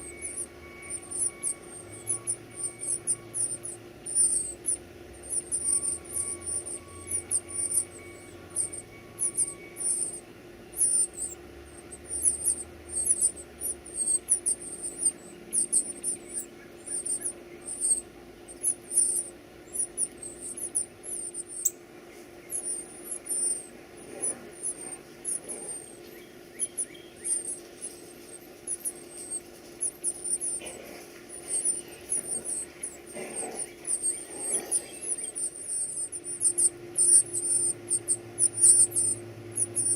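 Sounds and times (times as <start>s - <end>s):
baby birds cheeping: 0.0s - 39.9s.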